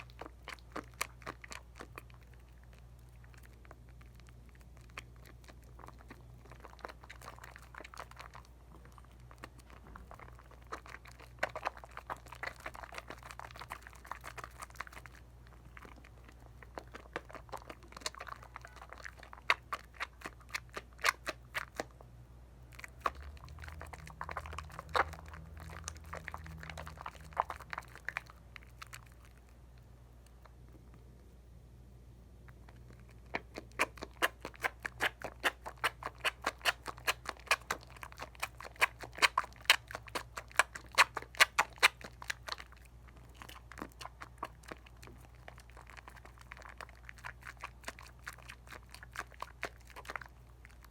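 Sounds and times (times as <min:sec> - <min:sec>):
soap lather squishing in hands: 0:00.0 - 0:22.0, 0:22.7 - 0:29.5, 0:33.1 - 0:50.9.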